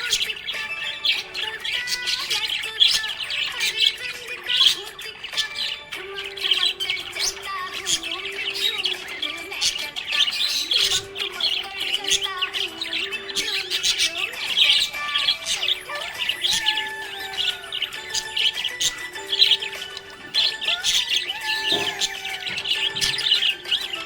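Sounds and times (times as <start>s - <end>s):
background music: 0.0s - 24.0s
budgie chirping and chattering: 0.0s - 24.0s.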